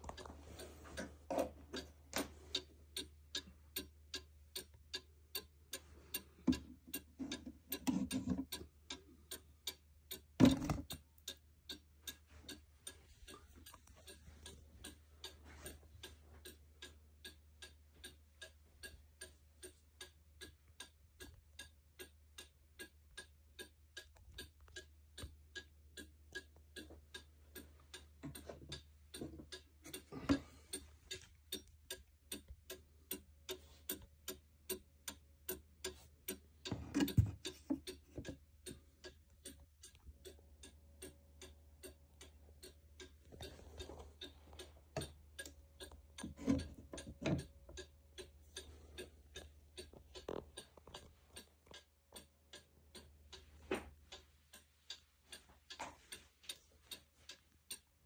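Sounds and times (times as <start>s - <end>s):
wall clock ticking: 0.0s - 58.0s.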